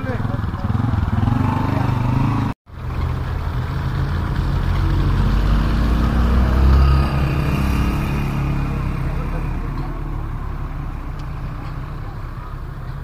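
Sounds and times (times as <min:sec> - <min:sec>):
street traffic: 0:00.0 - 0:13.0
vehicle engine rumbling: 0:00.0 - 0:13.0.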